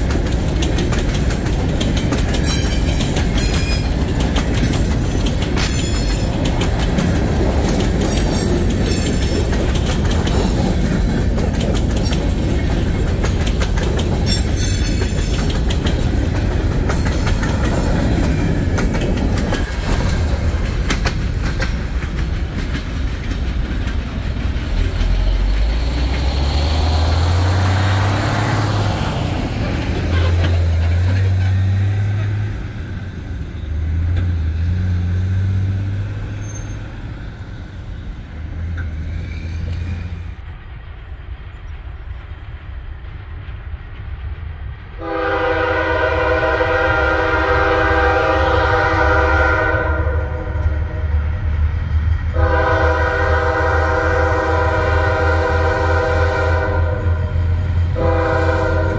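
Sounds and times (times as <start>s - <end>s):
train wheels clattering: 0.0s - 49.7s.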